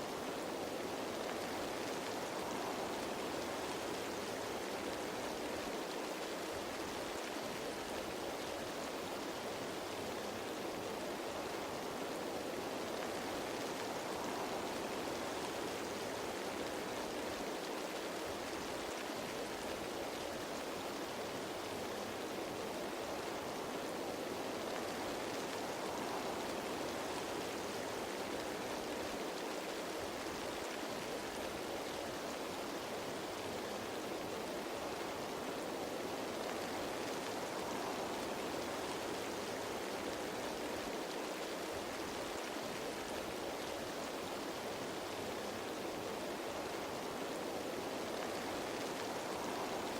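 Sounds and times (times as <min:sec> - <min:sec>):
rain falling on leaves: 0:00.0 - 0:49.9.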